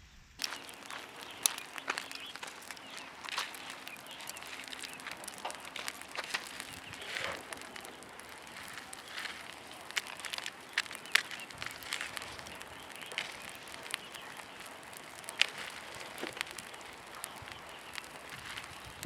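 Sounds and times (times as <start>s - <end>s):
matches fizzing and crackling: 0.3s - 19.0s.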